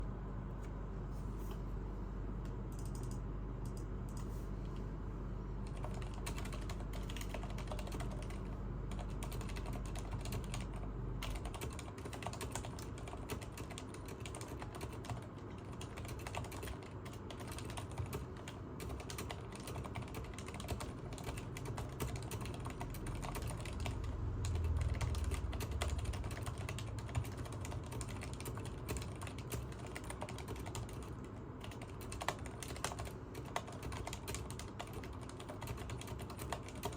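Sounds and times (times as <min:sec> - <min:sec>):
typing on mechanical keyboard: 0:02.7 - 0:04.3, 0:05.6 - 0:36.9.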